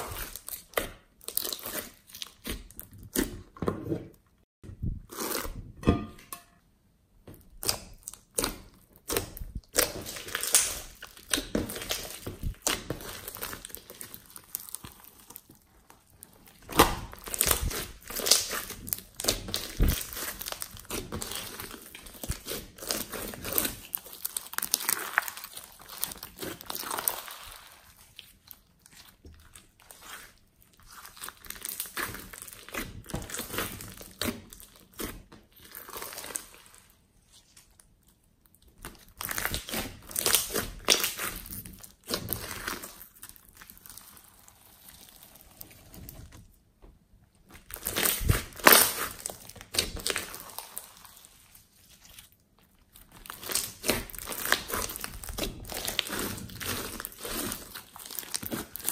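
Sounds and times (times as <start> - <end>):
slime crackling and popping: 7.4 - 36.9, 37.7 - 46.3, 47.4 - 58.9.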